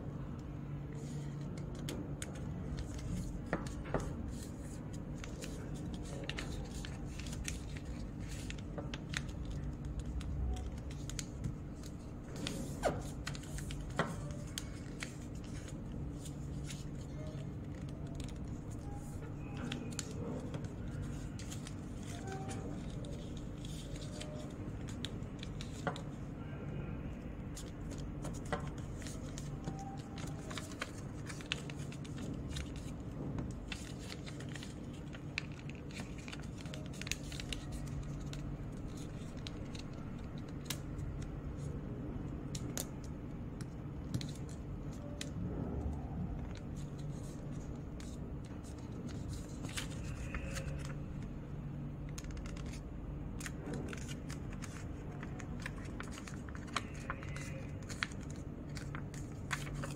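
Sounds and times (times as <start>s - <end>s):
steady low hum: 0.0s - 59.9s
paper being folded and creased: 0.9s - 26.5s, 27.5s - 41.8s, 43.6s - 51.4s, 52.1s - 59.9s
paper crackles and clicks: 0.9s - 26.6s, 27.4s - 41.8s, 42.4s - 51.4s, 52.0s - 59.9s.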